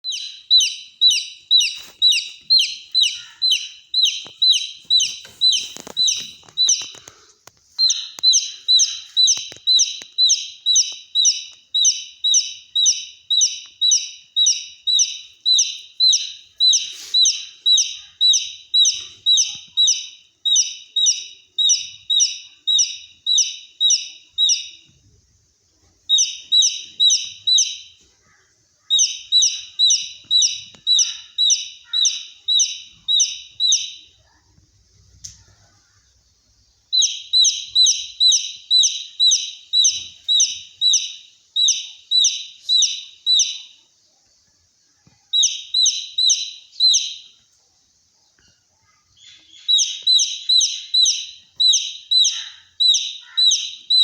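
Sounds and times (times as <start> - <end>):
baby chick peeping: 0.0 - 47.6, 48.2 - 54.0.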